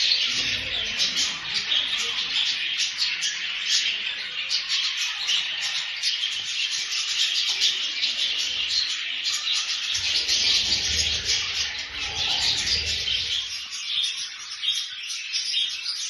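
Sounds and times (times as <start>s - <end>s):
flock of small birds chirping: 0.0s - 16.0s.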